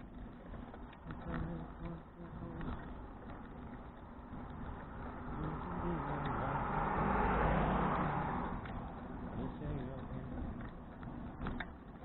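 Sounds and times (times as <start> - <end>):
car approaching: 0.0 - 12.0.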